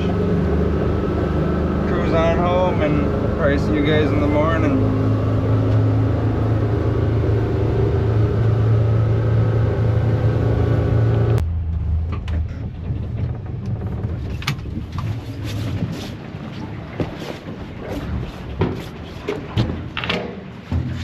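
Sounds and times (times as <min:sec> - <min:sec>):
boat motor running: 0:00.0 - 0:21.0
water noise: 0:00.0 - 0:21.0
wind: 0:00.0 - 0:21.0.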